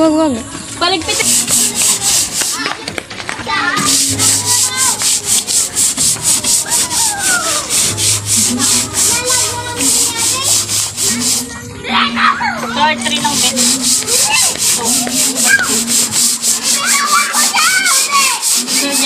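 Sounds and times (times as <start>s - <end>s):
scrub pad rubbing on wall: 1.1s - 2.8s, 3.6s - 11.6s, 13.0s - 19.0s.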